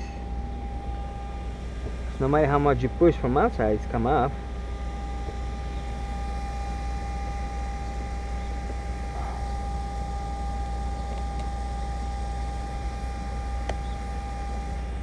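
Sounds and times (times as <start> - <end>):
faint whine: 0.0 - 15.0
low hum and hiss: 0.0 - 15.0.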